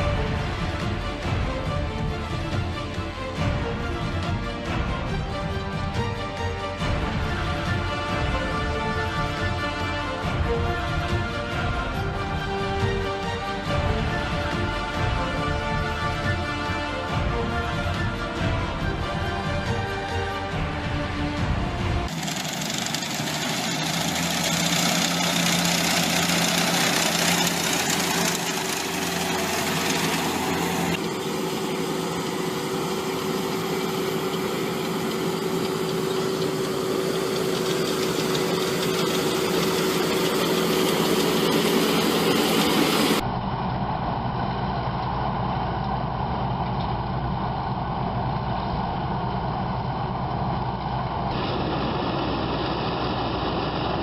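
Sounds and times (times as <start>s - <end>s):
heavy farm machinery humming: 0.0s - 54.0s.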